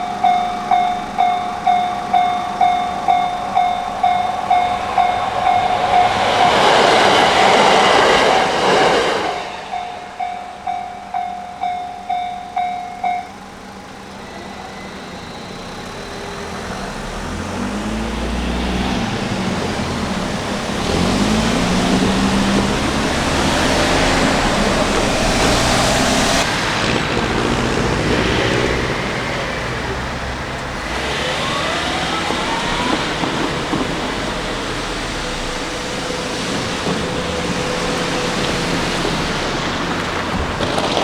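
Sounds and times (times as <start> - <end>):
vehicle accelerating: 0.0 - 11.0, 13.7 - 41.0
cars passing: 0.0 - 41.0.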